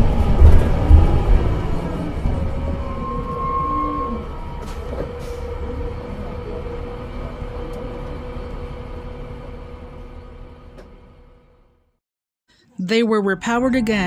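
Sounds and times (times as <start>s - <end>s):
transmission whine: 0.0s - 11.4s
bus engine drone: 0.0s - 12.0s.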